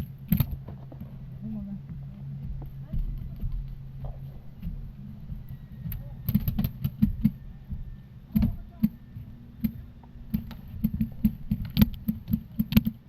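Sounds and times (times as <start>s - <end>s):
irregular knocks and thumps: 0.0s - 13.0s
low steady rumble: 0.0s - 13.0s.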